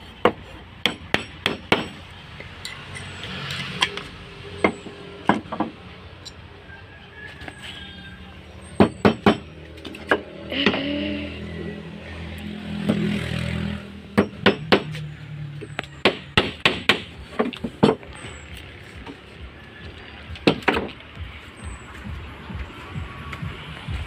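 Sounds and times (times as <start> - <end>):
engine hum: 0.0 - 24.0.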